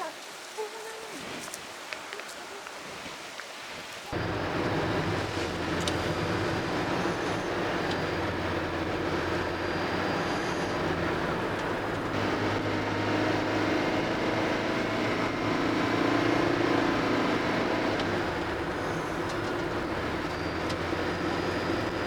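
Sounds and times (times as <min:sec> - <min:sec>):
car interior road and engine rumble: 0:04.1 - 0:22.0.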